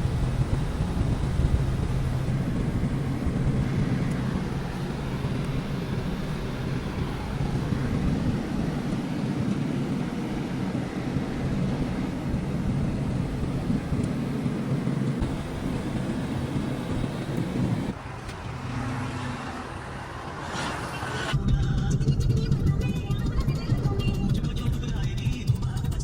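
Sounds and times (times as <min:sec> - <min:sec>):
road noise: 0:00.0 - 0:25.8
car engine hum: 0:00.0 - 0:26.0.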